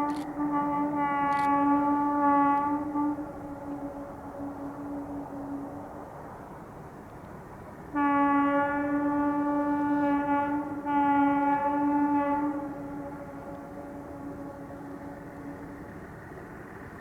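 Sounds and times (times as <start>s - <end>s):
train horn blasts: 0.0s - 6.8s, 7.9s - 17.0s
train rumble: 0.0s - 17.0s.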